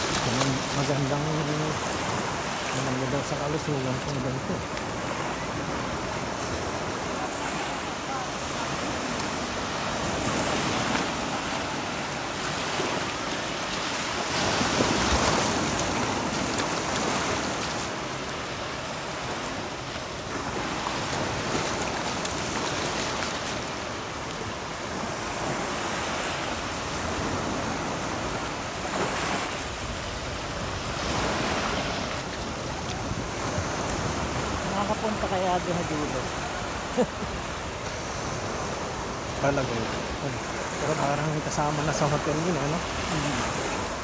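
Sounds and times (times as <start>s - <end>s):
sea waves washing on beach: 0.0s - 44.0s.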